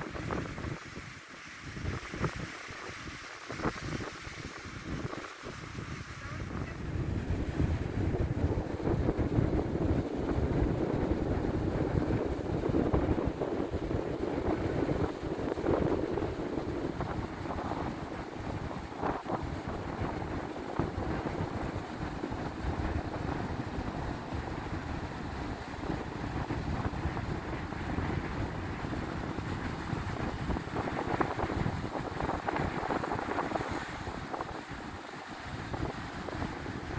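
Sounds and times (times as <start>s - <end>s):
sea waves washing: 0.0s - 36.9s
wind buffeting microphone: 0.0s - 36.9s.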